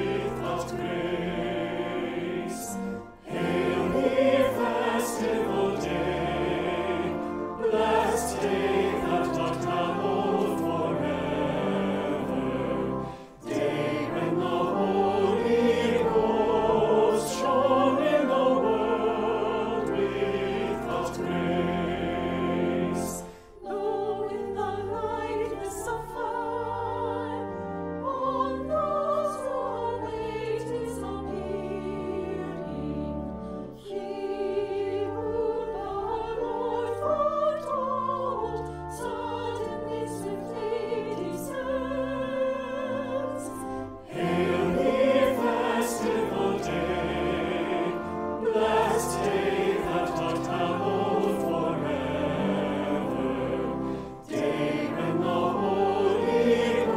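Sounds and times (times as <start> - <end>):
church choir singing a hymn: 0.0 - 56.9.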